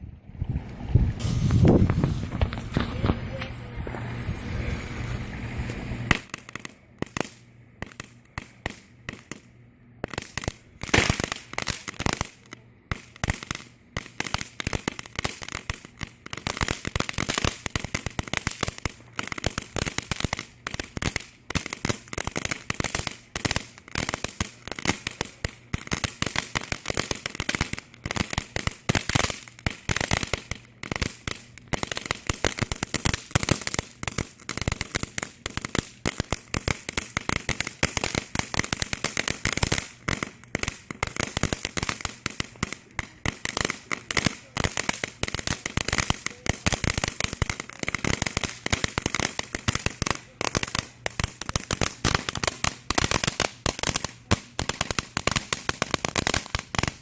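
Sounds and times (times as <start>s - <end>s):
firecrackers crackling: 0.4s - 57.0s.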